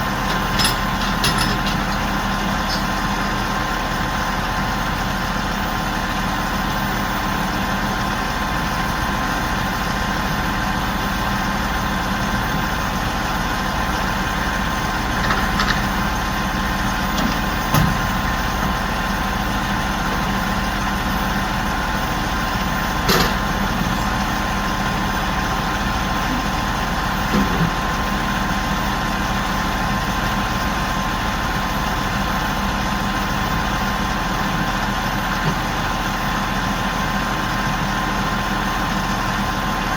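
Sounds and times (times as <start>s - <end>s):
crane engine idling: 0.0s - 39.9s.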